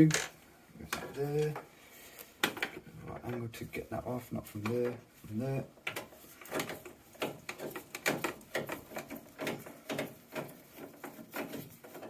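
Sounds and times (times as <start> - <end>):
clicks and knocks of parts: 0.0 - 3.6, 5.8 - 12.0.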